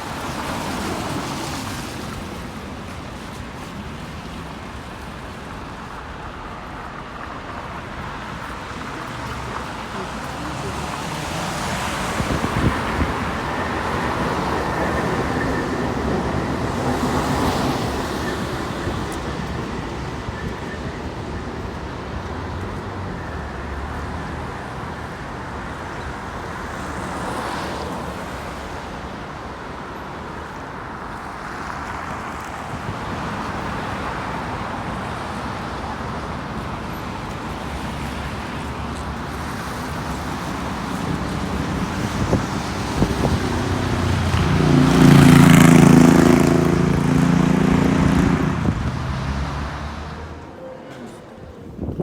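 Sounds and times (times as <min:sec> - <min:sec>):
road traffic noise: 0:00.0 - 0:52.0
vehicles passing by: 0:00.0 - 0:52.0.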